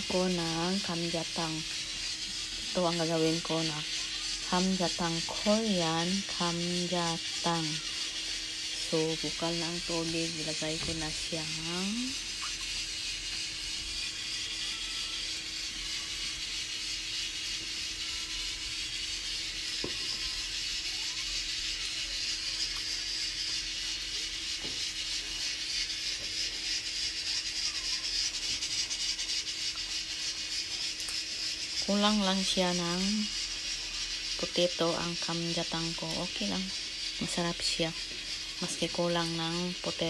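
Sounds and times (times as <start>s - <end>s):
water boiling and bubbling: 0.0s - 14.4s, 15.3s - 40.0s.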